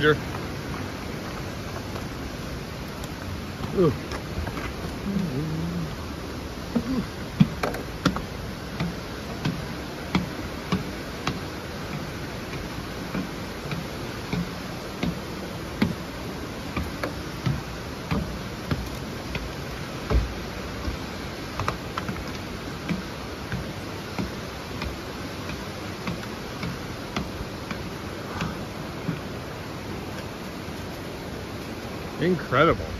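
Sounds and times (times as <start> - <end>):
steady hiss: 0.0 - 32.9
footsteps on wooden boards: 0.2 - 5.2, 5.9 - 32.9.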